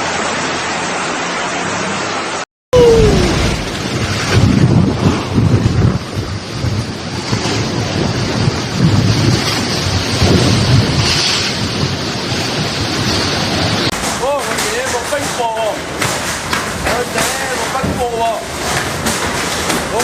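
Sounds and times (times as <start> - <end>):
heavy rain and hail: 0.0 - 20.0
wind buffeting microphone: 2.8 - 20.0.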